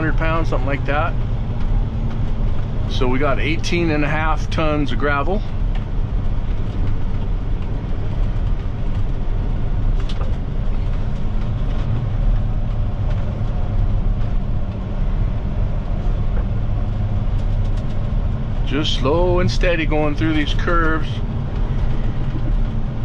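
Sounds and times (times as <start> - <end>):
diesel truck engine running: 0.0 - 23.0
road and tyre rumble: 0.0 - 23.0.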